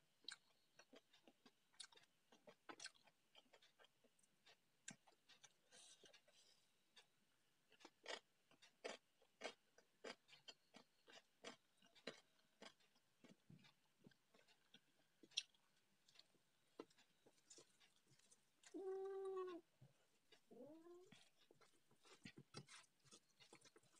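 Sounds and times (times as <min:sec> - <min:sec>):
chewing food: 0:00.2 - 0:23.9.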